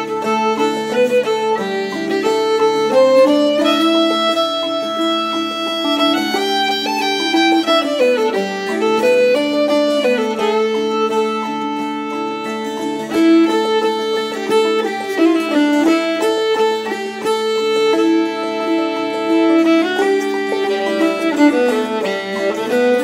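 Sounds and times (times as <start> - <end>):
instrumental string music: 0.0 - 23.0.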